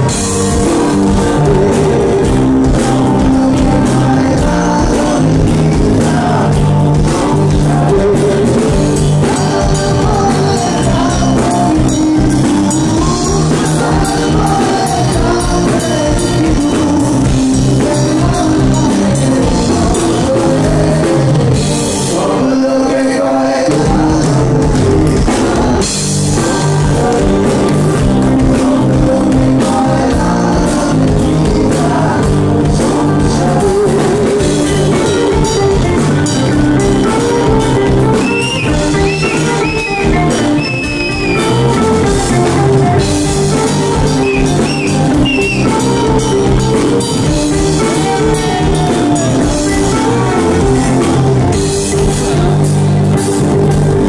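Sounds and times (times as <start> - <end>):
man singing: 0.0 - 53.3
live rock band playing: 0.0 - 54.0.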